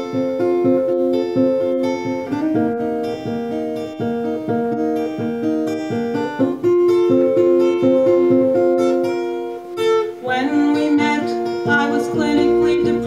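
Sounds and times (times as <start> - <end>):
acoustic guitar picking chords: 0.0 - 13.0.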